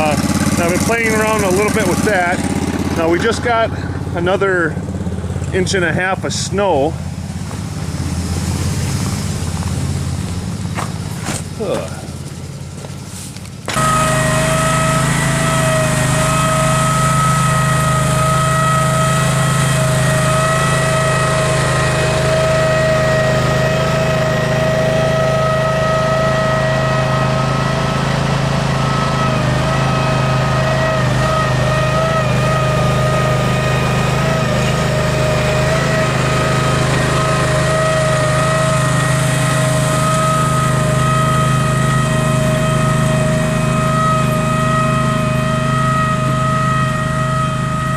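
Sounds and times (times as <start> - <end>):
steady whine: 0.0 - 47.9
tractor engine running: 0.0 - 47.9.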